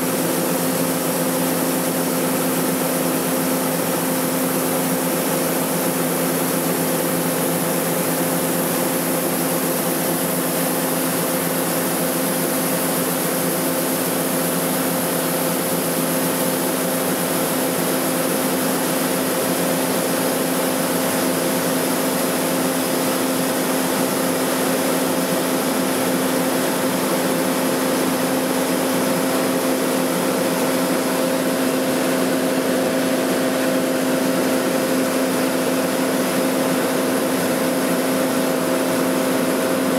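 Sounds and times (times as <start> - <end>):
farm machinery engine drone: 0.0 - 39.9.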